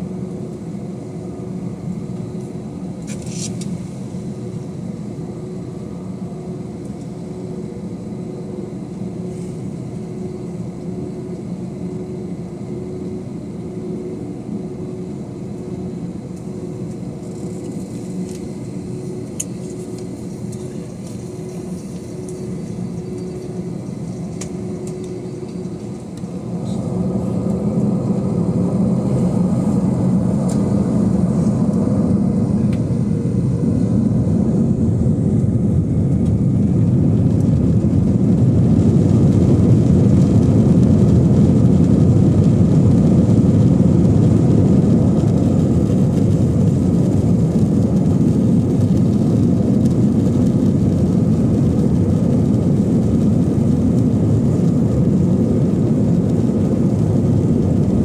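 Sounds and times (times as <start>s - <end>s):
jet engines from inside cabin: 0.0s - 58.0s.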